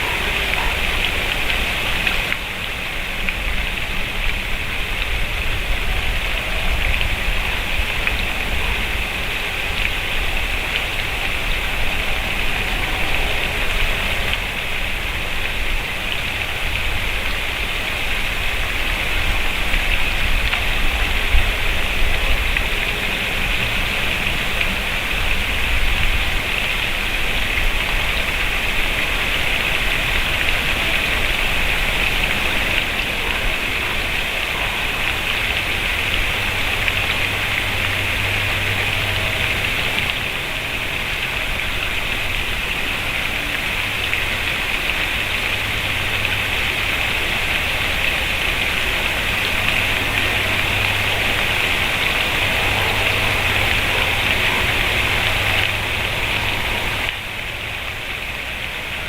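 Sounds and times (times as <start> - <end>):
steady rain-like hiss: 0.0 - 59.0.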